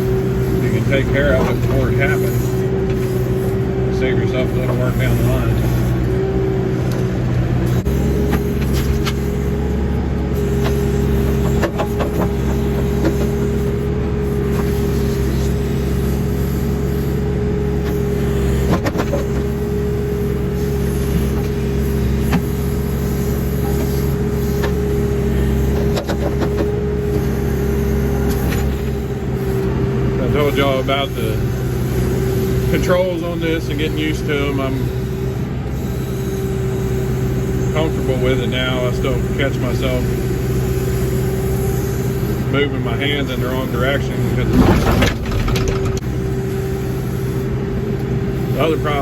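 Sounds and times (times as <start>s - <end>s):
backhoe diesel engine: 0.0s - 49.0s
steady whine: 0.0s - 49.0s.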